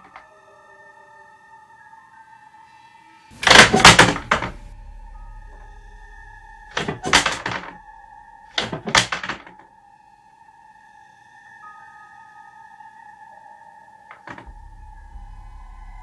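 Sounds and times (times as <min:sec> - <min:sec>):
droning music: 0:00.0 - 0:16.0.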